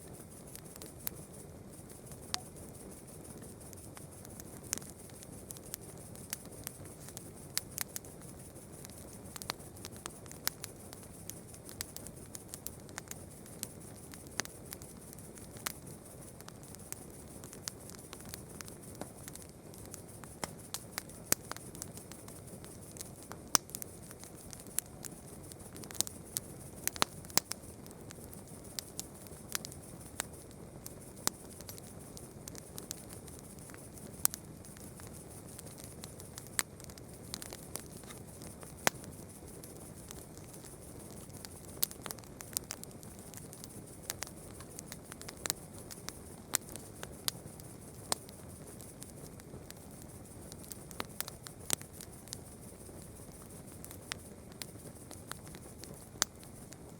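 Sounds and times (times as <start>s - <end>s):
fire hissing: 0.0s - 56.9s
campfire crackling and popping: 0.1s - 56.9s.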